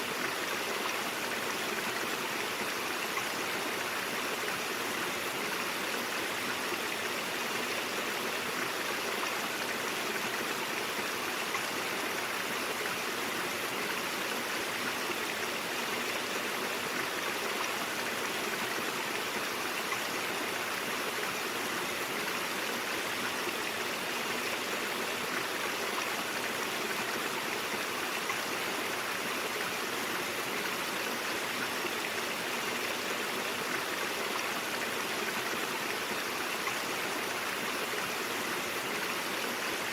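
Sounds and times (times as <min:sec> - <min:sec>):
brook water flowing: 0:00.0 - 0:39.9.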